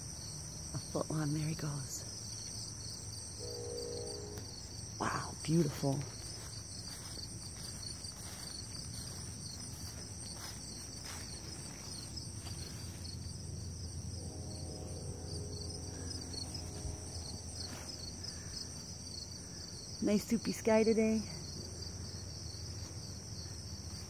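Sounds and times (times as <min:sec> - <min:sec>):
faint low droning hum: 0:00.0 - 0:24.0
insects trilling: 0:00.0 - 0:24.0.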